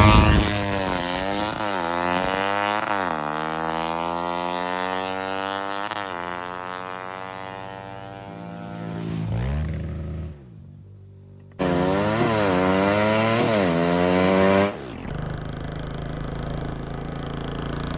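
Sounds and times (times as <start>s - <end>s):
racing motorcycle engine revving: 0.0s - 17.9s.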